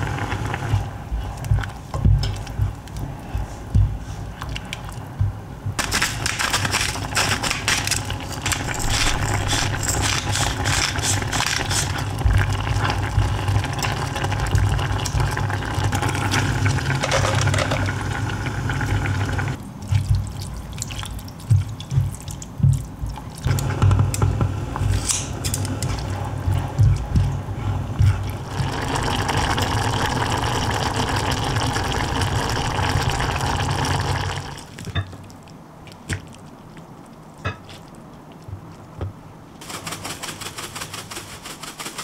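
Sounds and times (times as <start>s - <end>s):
broth boiling and bubbling: 0.0s - 37.4s.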